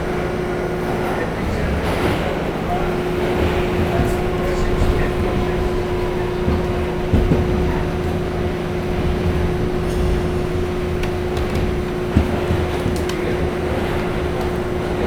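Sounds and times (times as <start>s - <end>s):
constant hum: 0.0s - 15.0s
wheels rumbling on rail: 0.0s - 15.0s.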